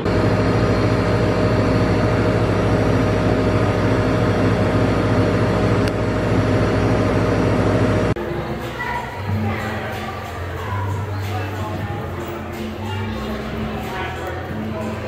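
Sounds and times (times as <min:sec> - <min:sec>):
large engine droning: 0:00.0 - 0:15.0.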